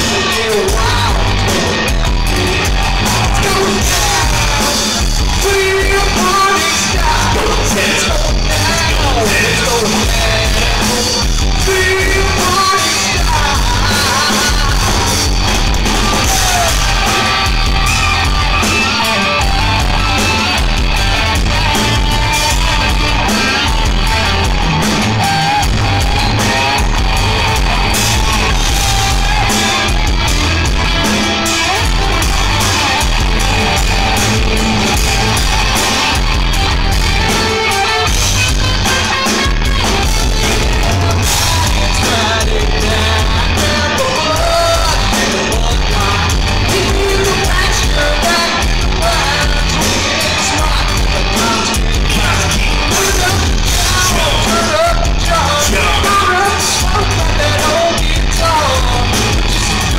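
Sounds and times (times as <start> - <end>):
person singing: 0.0 - 20.6, 21.7 - 59.9
drum kit: 0.0 - 59.9
electric guitars: 0.0 - 59.9.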